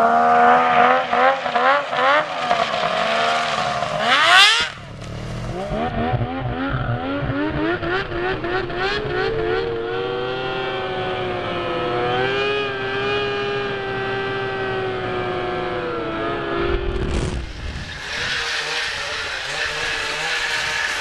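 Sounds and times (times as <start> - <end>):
snowmobile engine at high revs: 0.0 - 21.0.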